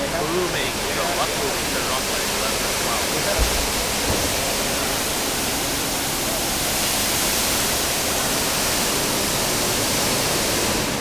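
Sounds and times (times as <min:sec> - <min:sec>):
fountain water rushing: 0:00.0 - 0:11.0.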